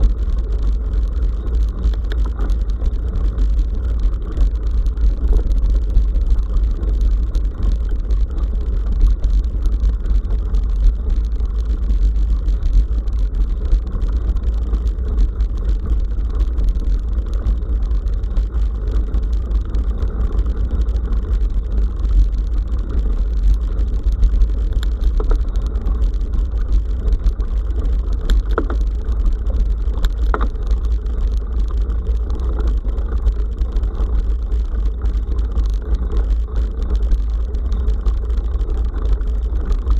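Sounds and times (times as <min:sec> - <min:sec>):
faint clicks and rattles: 0:00.0 - 0:39.9
wind rumble on microphone: 0:00.0 - 0:39.9.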